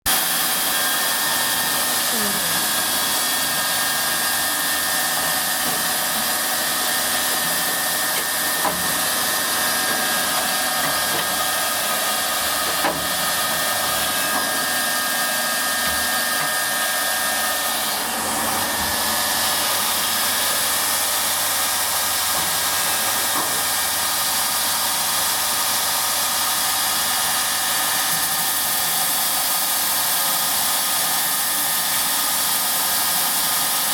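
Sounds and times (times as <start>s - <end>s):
belt polishing machine hissing: 0.1s - 33.9s.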